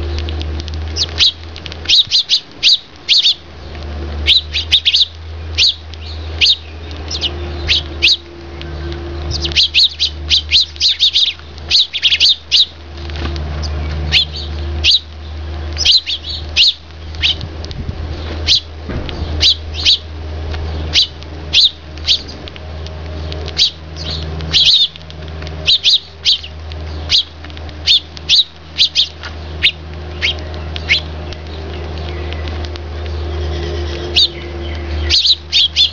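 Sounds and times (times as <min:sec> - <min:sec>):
sparrows chirping: 0:00.0 - 0:35.9
steady low hum: 0:00.0 - 0:35.9.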